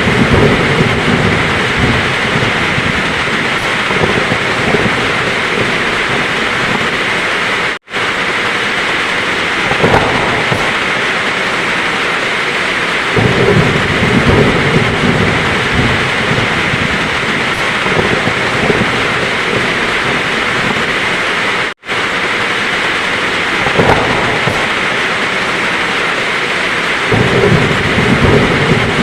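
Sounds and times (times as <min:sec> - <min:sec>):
heavy rain pouring: 0:00.0 - 0:29.0
low thunder rumble: 0:00.0 - 0:29.0.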